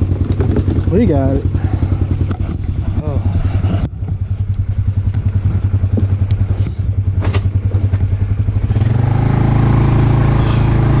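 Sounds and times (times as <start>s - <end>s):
off-road vehicle engine: 0.0s - 11.0s.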